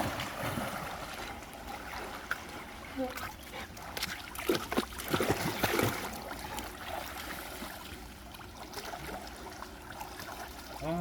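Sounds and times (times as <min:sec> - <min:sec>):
stream flowing: 0:00.0 - 0:11.0
water splashing: 0:00.0 - 0:11.0.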